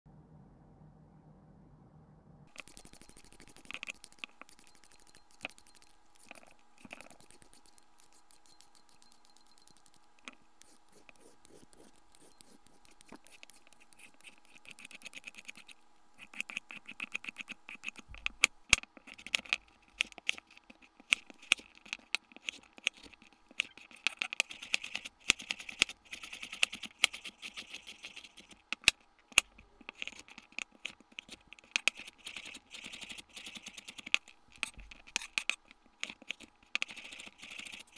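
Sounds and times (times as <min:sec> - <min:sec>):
peeler scraping carrot: 0:02.5 - 0:37.9.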